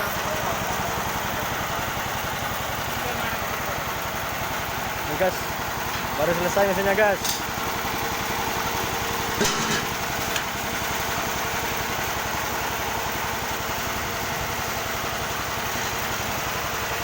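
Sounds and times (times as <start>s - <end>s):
sawmill engine pulsing: 0.0s - 17.0s.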